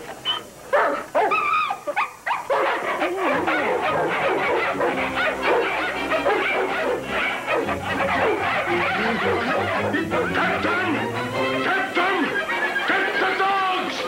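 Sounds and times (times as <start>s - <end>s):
dog whining: 0.2s - 11.6s
dogs barking and yelping: 0.2s - 13.3s.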